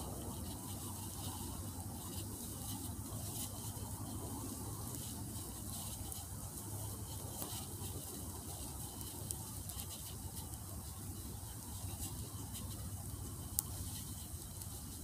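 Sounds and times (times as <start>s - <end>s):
faint rustles and ticks: 0.0s - 15.0s.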